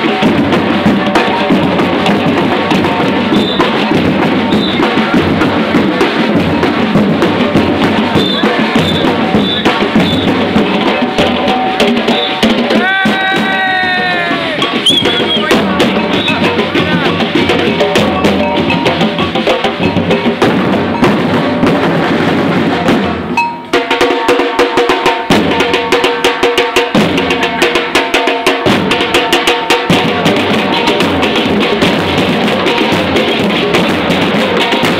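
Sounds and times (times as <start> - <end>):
samba drum ensemble: 0.0 - 34.9.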